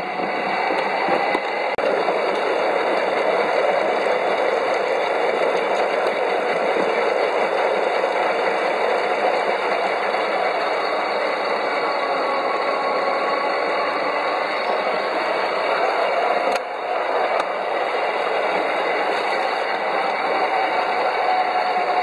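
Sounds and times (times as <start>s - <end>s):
train wheels rattling on rails: 0.0s - 22.0s.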